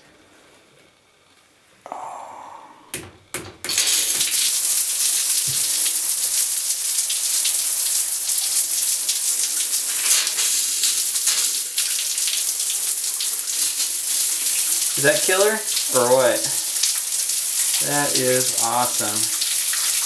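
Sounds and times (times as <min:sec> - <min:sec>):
shower water splashing on concrete: 0:03.6 - 0:20.0.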